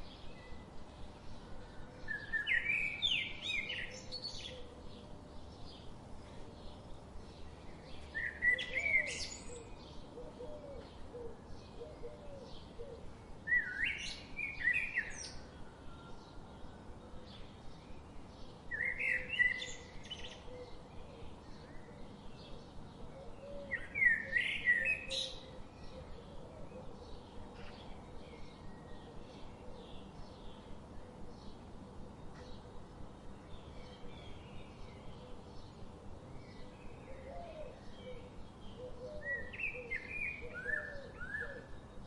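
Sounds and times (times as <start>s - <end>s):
birds chirping in forest: 0.0s - 42.0s
songbird singing: 0.0s - 42.0s.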